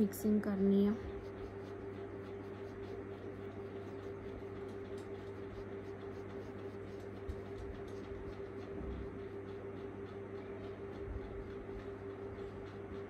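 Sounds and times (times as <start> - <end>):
paintbrush scratching on fabric: 0.0 - 13.0.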